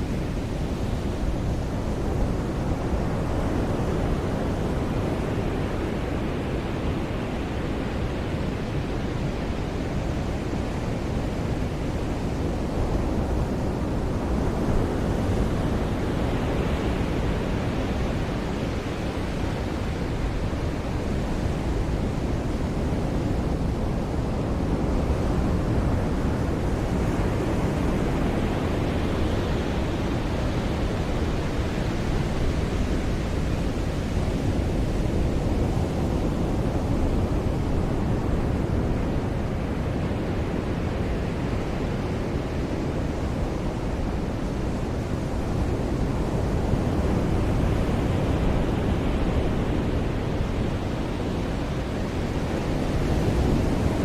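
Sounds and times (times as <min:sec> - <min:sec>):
ocean surf washing onto beach: 0:00.0 - 0:54.0.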